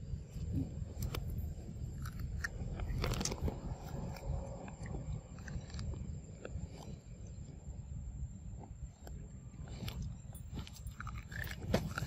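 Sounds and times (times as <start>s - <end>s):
monkey chewing corn: 0.3s - 7.8s, 8.4s - 12.0s.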